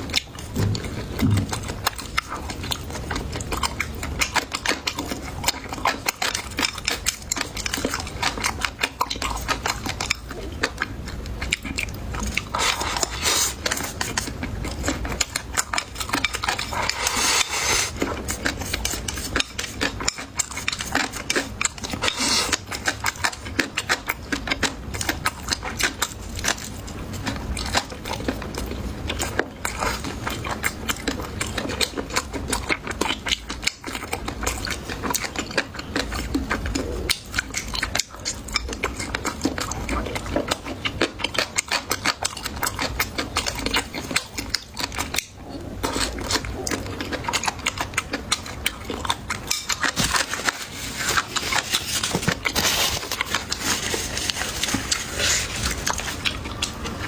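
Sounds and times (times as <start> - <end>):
person chewing and biting: 0.0 - 57.0.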